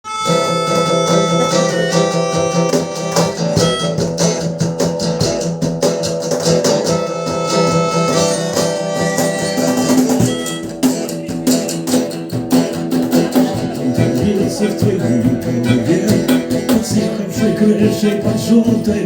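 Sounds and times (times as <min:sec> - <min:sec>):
rock guitars strummed: 0:00.1 - 0:19.0.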